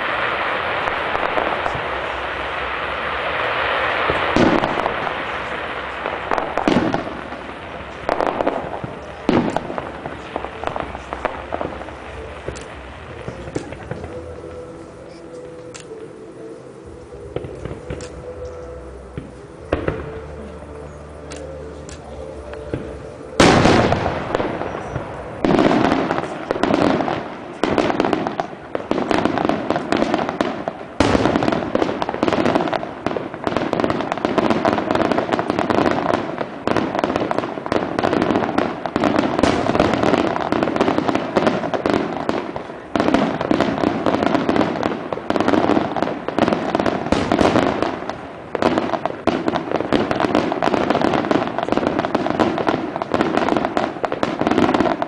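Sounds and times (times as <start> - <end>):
fireworks bang: 0.0 - 16.1, 17.2 - 20.7, 21.4 - 55.0
fireworks bursts and crackle: 0.0 - 55.0.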